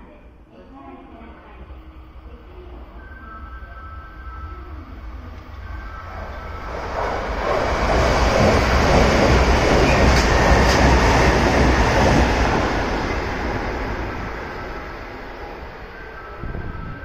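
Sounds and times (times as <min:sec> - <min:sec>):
electric train passing: 0:01.0 - 0:17.0.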